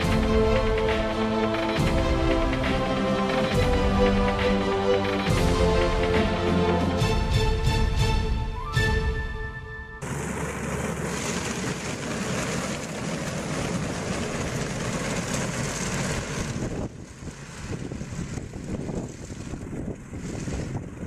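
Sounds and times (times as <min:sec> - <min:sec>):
snowcat engine and tracks: 0:00.0 - 0:21.0.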